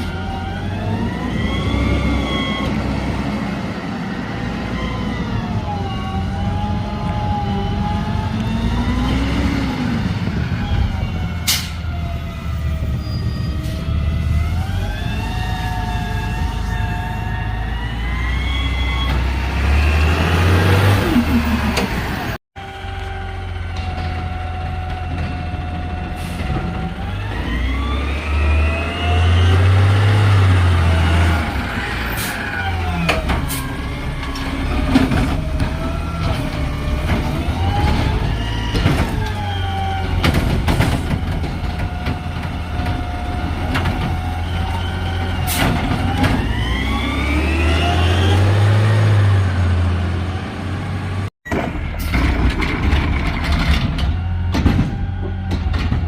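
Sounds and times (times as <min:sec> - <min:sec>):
diesel engine revving: 0:00.0 - 0:55.6.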